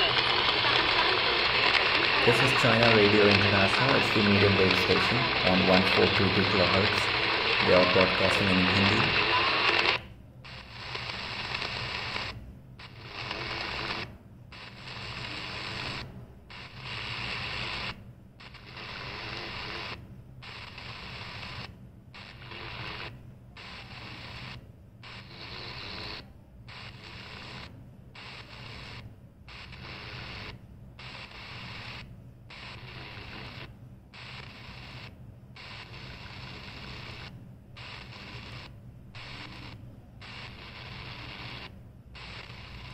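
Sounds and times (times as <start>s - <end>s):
radio static hiss: 0.0s - 42.9s.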